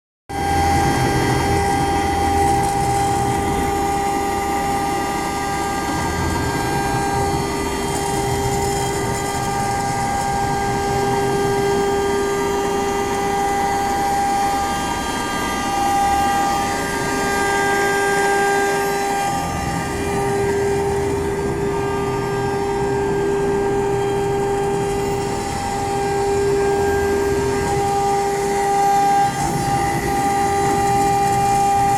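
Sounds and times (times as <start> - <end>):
router spindle whining: 0.3 - 31.9.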